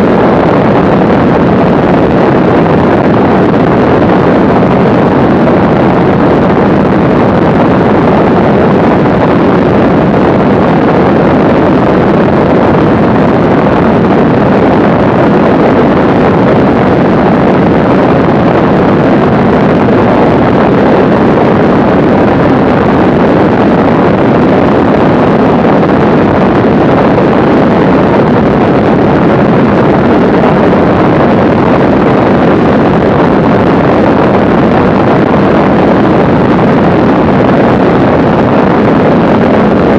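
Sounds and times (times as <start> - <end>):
airplane engine and propeller drone: 0.0 - 39.9
wind on microphone: 0.0 - 39.9.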